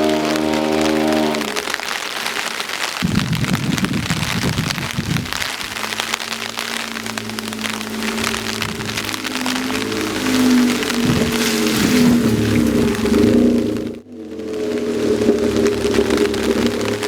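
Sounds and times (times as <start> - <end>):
car exhaust rumble: 0.0 - 2.0, 3.0 - 17.0
road and wind noise hiss: 0.0 - 17.0.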